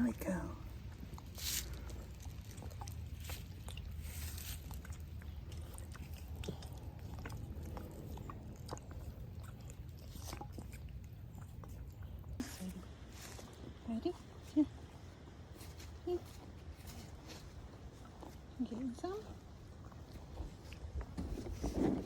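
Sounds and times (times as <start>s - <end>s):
donkey crunching food: 0.0s - 22.0s
low rumble: 0.0s - 22.0s.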